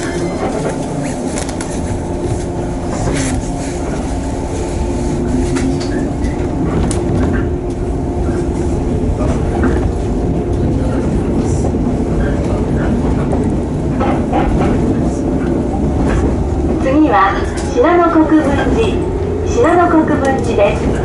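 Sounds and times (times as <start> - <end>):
train rumble and motor hum: 0.0 - 21.0.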